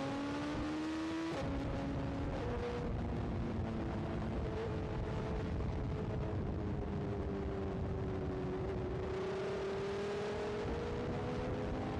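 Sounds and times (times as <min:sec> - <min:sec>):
road and wind noise: 0:00.0 - 0:11.9.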